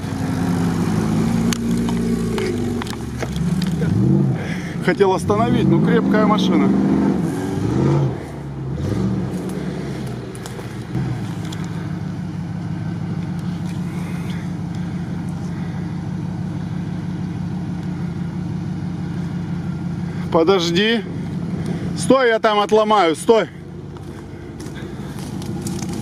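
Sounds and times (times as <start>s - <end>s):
engine running at low revs: 0.0s - 26.0s
off-road engine revving: 0.0s - 26.0s.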